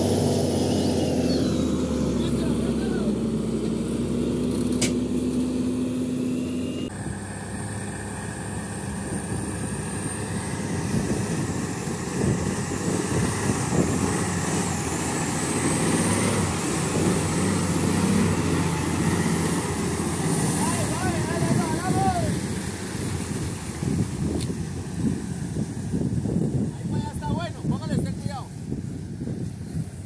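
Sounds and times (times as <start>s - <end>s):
diesel truck engine under load: 0.0s - 27.9s.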